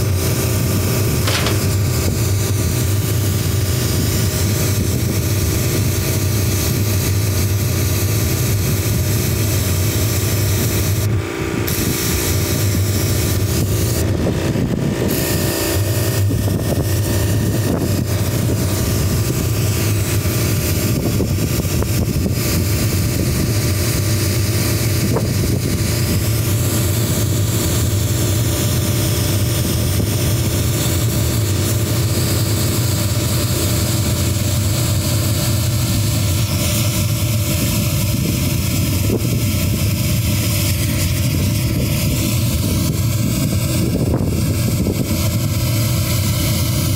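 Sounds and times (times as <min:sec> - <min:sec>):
carpet extractor running: 0:00.0 - 0:46.9.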